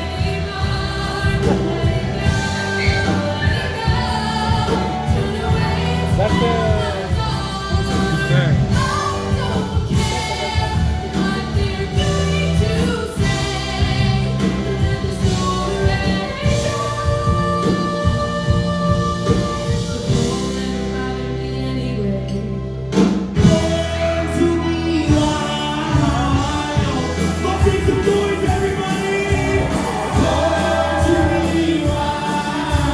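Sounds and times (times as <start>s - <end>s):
voices singing together: 0.0s - 22.4s, 23.3s - 32.9s
live band playing: 0.0s - 32.9s.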